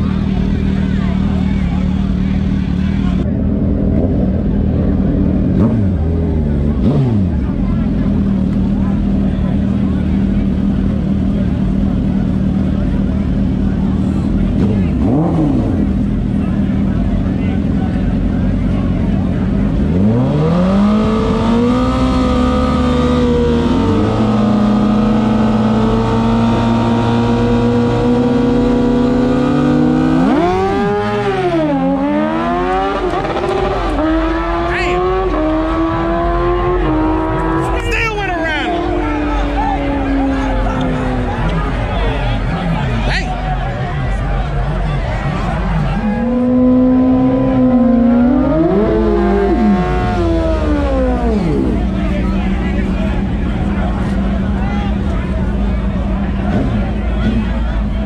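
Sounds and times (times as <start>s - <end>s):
motorcycles revving and accelerating: 0.0s - 58.0s.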